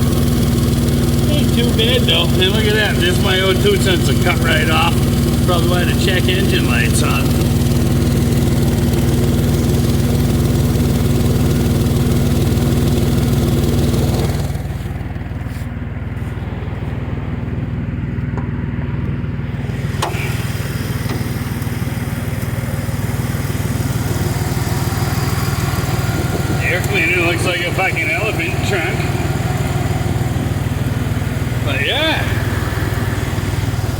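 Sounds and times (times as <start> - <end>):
pickup truck engine idling: 0.0 - 33.9.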